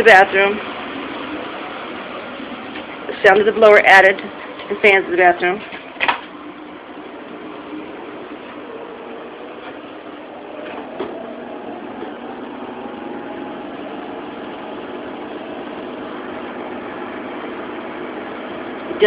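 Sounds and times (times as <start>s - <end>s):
air conditioning blower whirring: 0.0s - 19.0s
exhaust fans: 0.0s - 19.0s.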